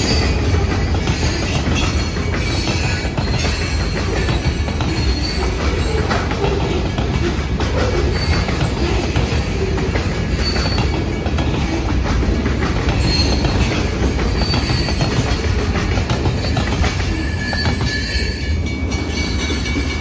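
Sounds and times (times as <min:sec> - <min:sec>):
high-pitched wheel squeals: 0:00.0 - 0:09.5, 0:10.2 - 0:11.8, 0:12.9 - 0:19.3
freight train cars rumbling: 0:00.0 - 0:20.0
wheel clatter: 0:00.0 - 0:20.0.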